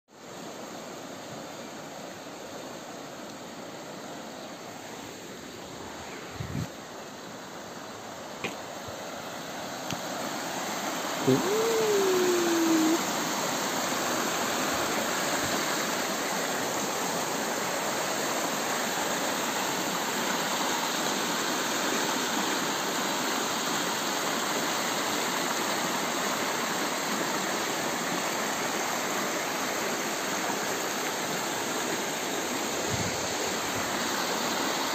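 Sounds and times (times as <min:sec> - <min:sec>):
river water rushing: 0:00.3 - 0:34.9.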